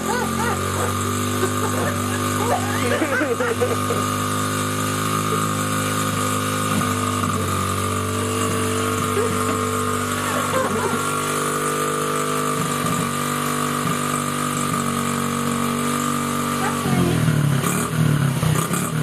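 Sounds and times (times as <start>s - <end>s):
small petrol engine idling: 0.0s - 19.0s.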